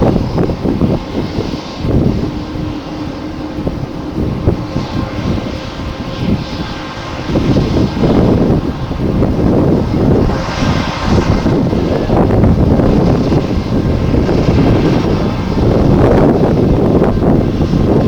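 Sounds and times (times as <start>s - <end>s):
jet engines running: 0.0s - 18.0s
wind buffeting microphone: 0.0s - 18.0s.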